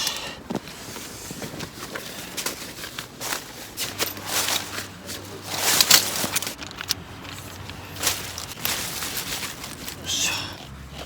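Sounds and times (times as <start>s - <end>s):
gear rustling: 0.0s - 11.0s
knocks and clicks of gear handled: 0.0s - 11.0s.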